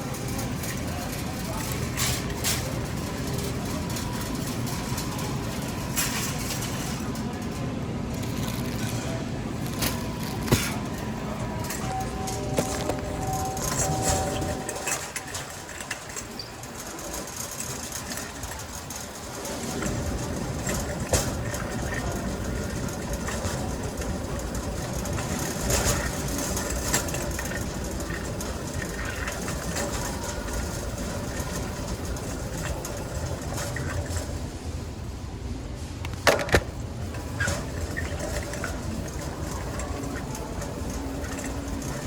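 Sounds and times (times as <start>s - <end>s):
grocery store background rumble: 0.0s - 42.0s.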